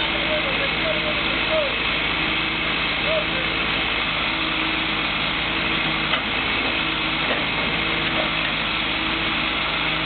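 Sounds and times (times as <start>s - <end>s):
heavy diesel engines humming: 0.0s - 10.0s.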